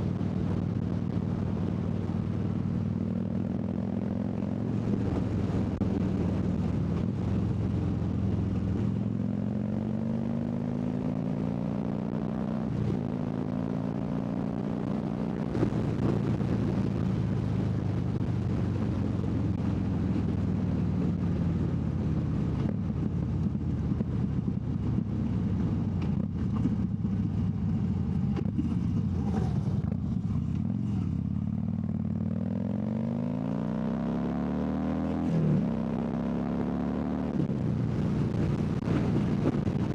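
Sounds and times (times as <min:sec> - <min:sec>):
motorcycle engine running: 0:00.0 - 0:34.3, 0:35.0 - 0:39.9
wind rushing over microphone: 0:00.0 - 0:39.9.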